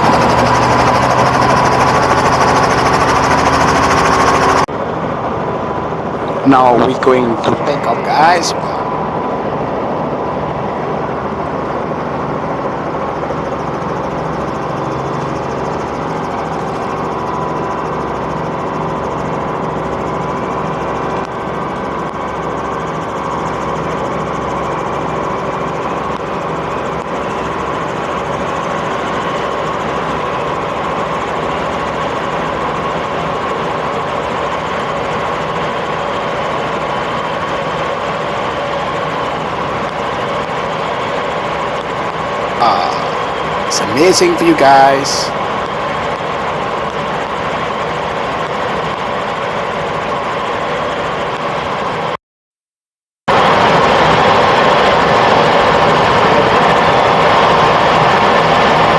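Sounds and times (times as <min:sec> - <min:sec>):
helicopter engine and rotors: 0:00.0 - 0:52.2, 0:53.3 - 0:58.9.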